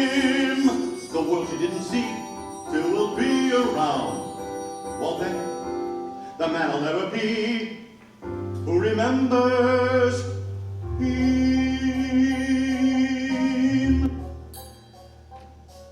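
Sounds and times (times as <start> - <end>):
man singing: 0.0 - 5.7, 6.4 - 14.2
piano accompaniment: 0.0 - 15.9.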